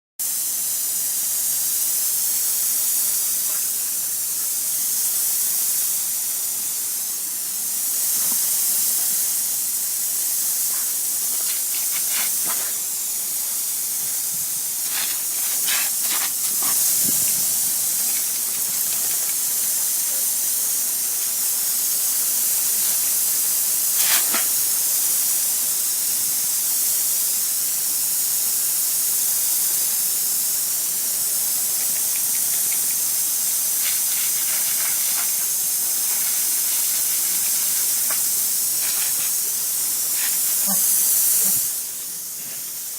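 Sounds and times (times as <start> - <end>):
garden hose spraying water: 0.2 - 42.9.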